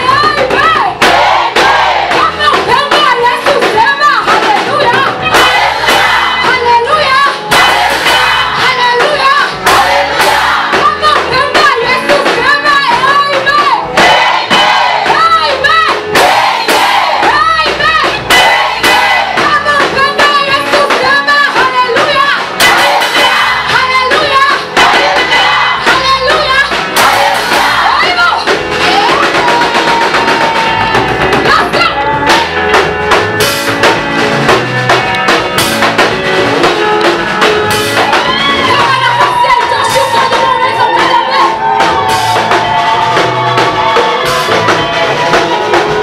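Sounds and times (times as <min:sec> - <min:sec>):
band playing: 0:00.0 - 0:46.0
drum kit: 0:00.0 - 0:46.0
people singing praise music: 0:00.2 - 0:19.8, 0:20.4 - 0:30.9, 0:38.0 - 0:46.0.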